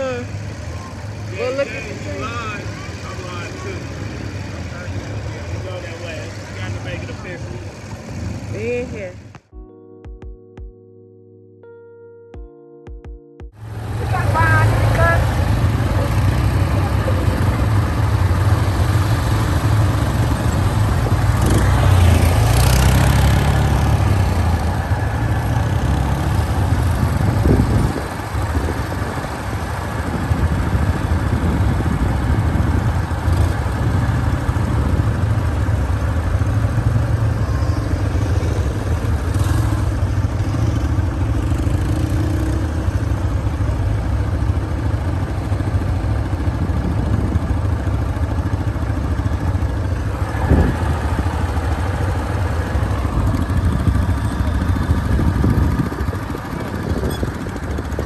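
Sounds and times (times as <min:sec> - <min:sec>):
quad bike engines running: 0:00.0 - 0:09.5, 0:13.6 - 0:58.0.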